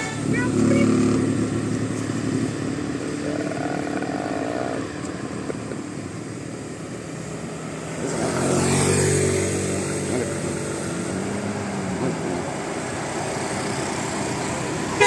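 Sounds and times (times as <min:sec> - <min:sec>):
road traffic passing: 0:00.0 - 0:15.0
vehicle passing close: 0:00.0 - 0:15.0.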